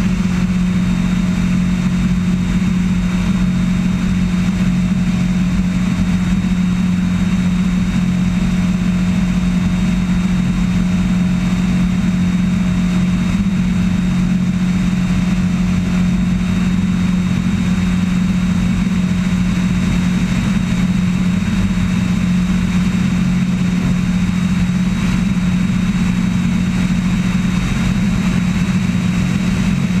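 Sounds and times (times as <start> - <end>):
light aircraft engine droning: 0.0 - 30.0.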